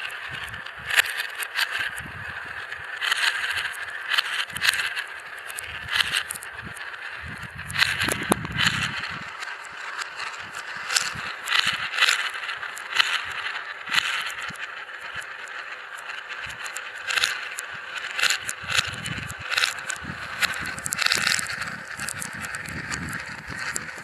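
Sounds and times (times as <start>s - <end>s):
marbles clicking and clacking: 0.0s - 24.0s
marbles rolling on tracks: 0.0s - 24.0s.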